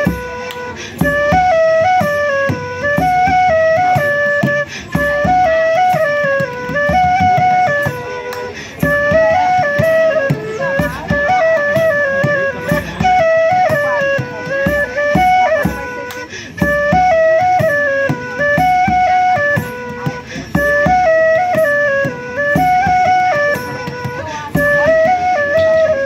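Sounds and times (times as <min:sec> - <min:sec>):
steady drum beat: 0:00.0 - 0:26.0
woodwind melody: 0:00.0 - 0:26.0.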